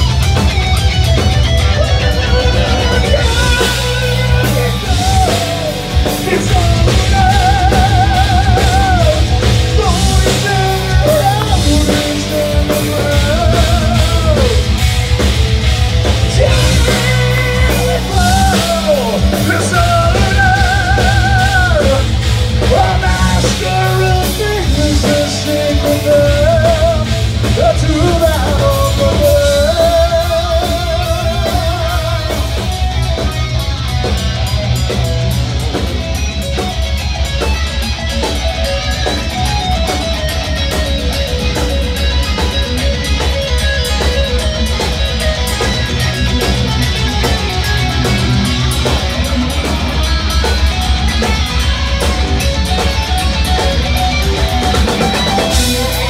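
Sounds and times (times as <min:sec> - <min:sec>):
electric guitars: 0:00.0 - 0:56.0
rapid bass drum beat: 0:00.0 - 0:56.0.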